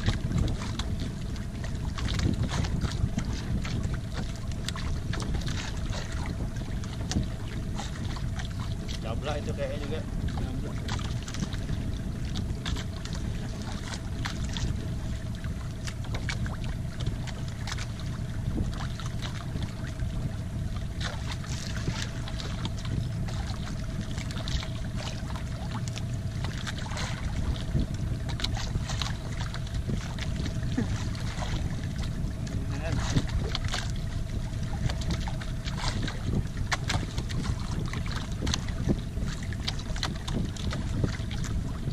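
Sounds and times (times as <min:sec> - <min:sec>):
boat engine rumble: 0:00.0 - 0:41.9
water slapping against hull: 0:00.0 - 0:41.9.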